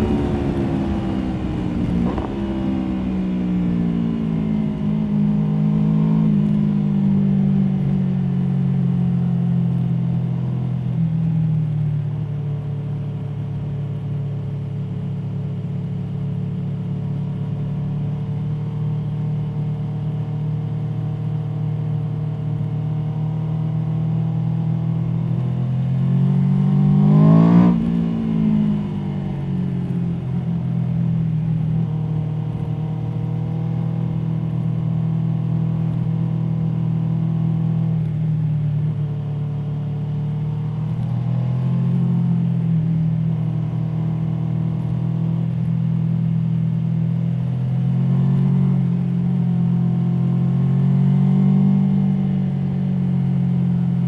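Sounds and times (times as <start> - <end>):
motorcycle engine revving: 0.0 - 11.0, 12.0 - 54.0.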